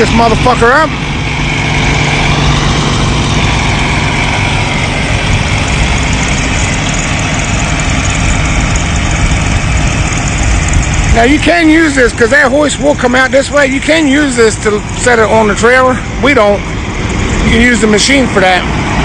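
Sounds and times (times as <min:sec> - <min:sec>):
diesel engine running: 0:00.0 - 0:19.0
hydraulics working: 0:00.0 - 0:19.0.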